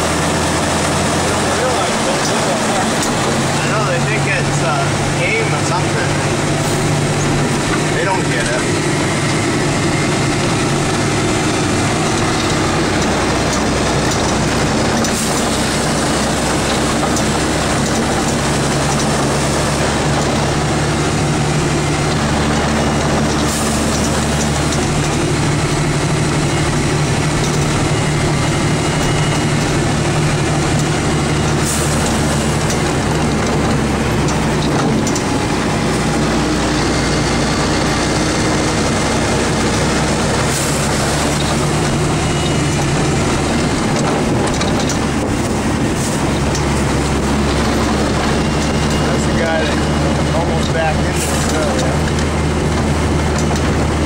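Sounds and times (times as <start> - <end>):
diesel truck engine running: 0.0 - 54.0
plow pushing snow rushing: 0.0 - 54.0.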